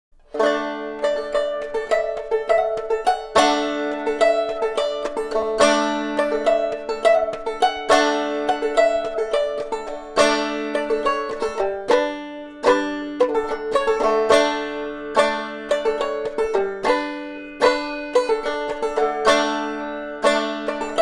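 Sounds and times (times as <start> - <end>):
banjo picking: 0.2 - 21.0.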